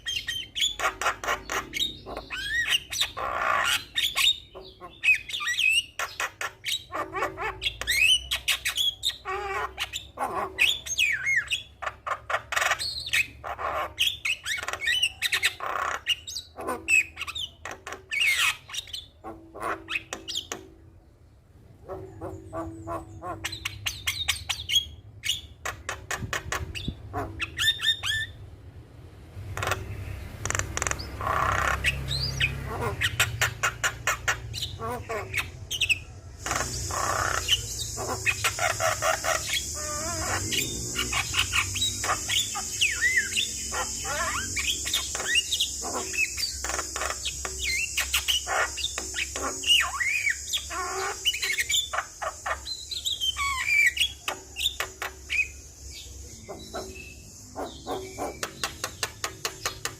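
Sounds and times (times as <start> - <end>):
myna bird singing: 0.0 - 28.8, 29.4 - 59.9.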